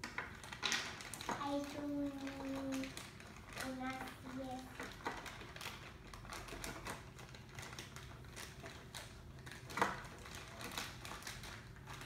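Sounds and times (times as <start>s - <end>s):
plastic toy pieces clicking: 0.0s - 12.0s.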